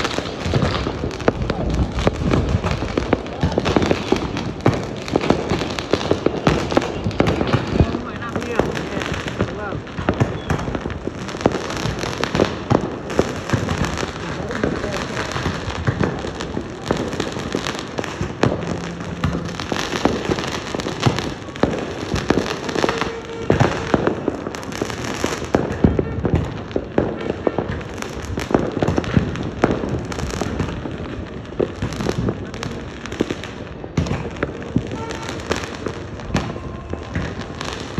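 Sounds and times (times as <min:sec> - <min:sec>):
fireworks crackle of bangs and pops: 0:00.0 - 0:37.9.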